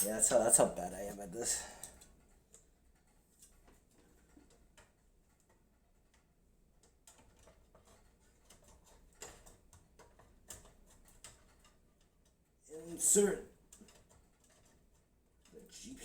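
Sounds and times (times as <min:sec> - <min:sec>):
small hardware clicking and tapping: 0:01.4 - 0:16.0.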